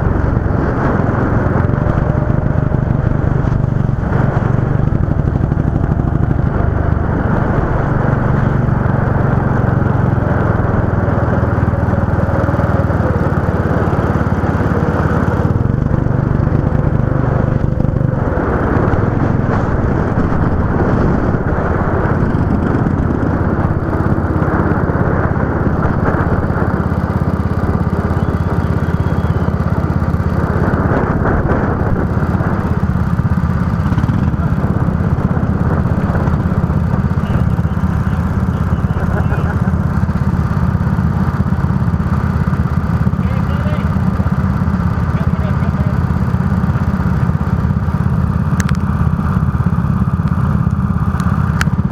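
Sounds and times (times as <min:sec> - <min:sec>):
go-kart engine running: 0:00.0 - 0:51.9.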